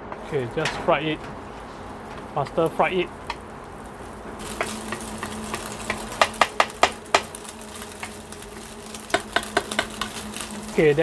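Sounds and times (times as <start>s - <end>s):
steady low hum: 0.0s - 11.0s
wooden spatula scraping frying pan: 0.0s - 11.0s
egg sizzling in oil: 0.2s - 11.0s.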